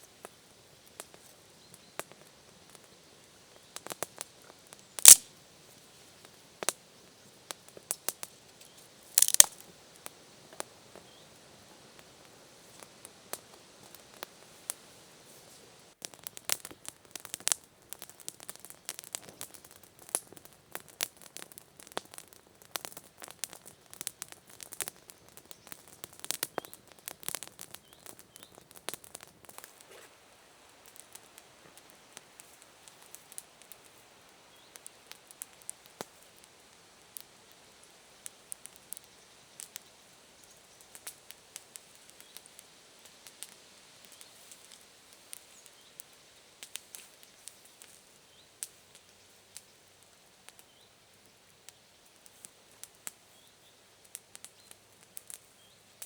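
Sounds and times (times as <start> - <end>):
campfire crackling: 0.0 - 56.0
faint steady hiss: 0.0 - 56.0.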